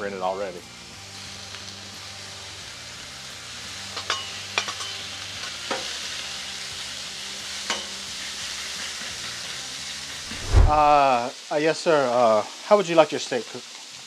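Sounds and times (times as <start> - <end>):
meat sizzling on a griddle: 0.0 - 14.0.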